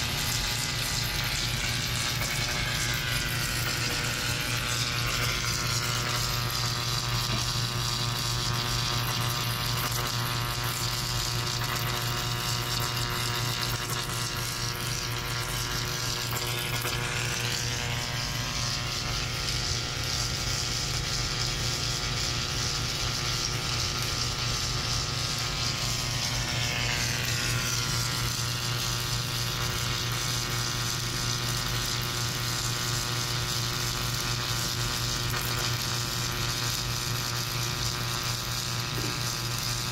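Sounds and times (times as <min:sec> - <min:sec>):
electrical hum and motor whir: 0:00.0 - 0:39.9
welding arc hiss: 0:00.0 - 0:39.9.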